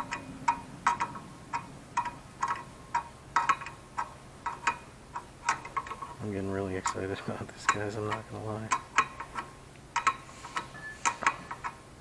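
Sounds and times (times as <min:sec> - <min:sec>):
light metallic ticks ringing: 0:00.0 - 0:06.0, 0:06.6 - 0:10.2.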